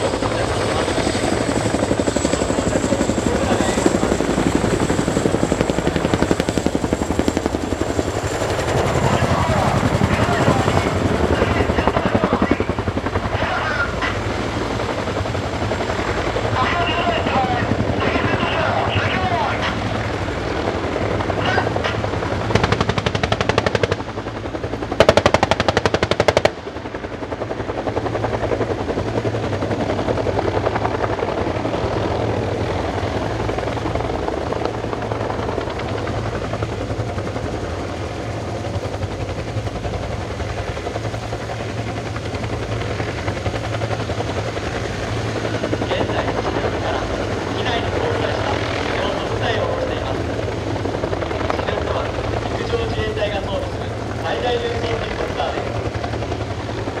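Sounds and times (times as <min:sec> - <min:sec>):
helicopters droning: 0:00.0 - 0:57.0.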